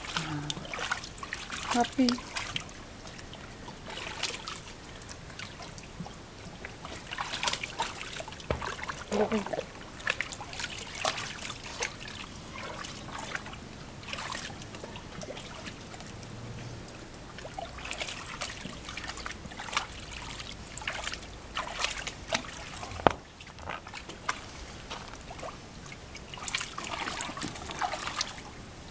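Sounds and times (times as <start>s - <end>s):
dog splashing in water: 0.0s - 28.5s.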